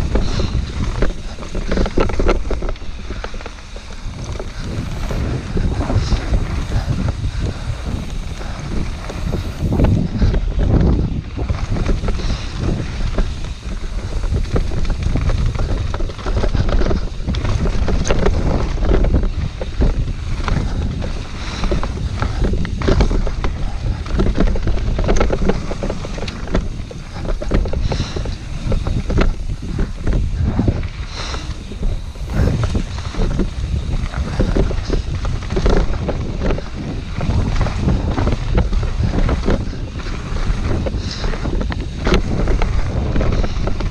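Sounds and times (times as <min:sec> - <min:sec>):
bike knocking and rattling: 0:00.0 - 0:43.9
tyres rumbling on gravel: 0:00.0 - 0:43.9
wind buffeting microphone: 0:00.0 - 0:43.9.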